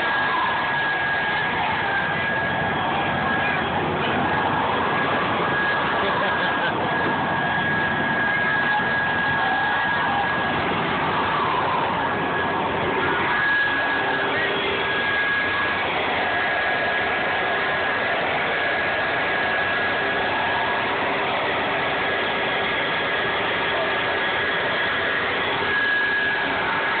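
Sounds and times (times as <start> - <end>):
electric blower whining: 0.0 - 27.0.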